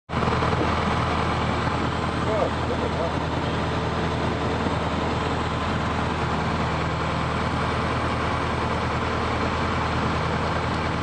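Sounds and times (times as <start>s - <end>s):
propeller plane engine running: 0.1s - 11.0s.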